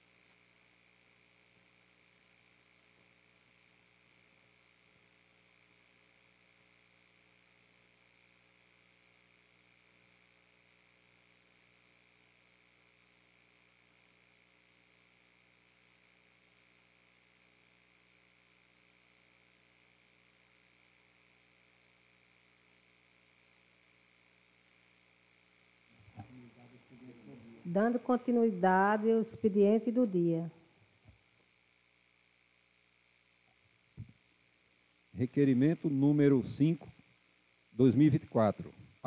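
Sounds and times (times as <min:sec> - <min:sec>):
faint electrical hum with hiss: 0:00.0 - 0:39.0.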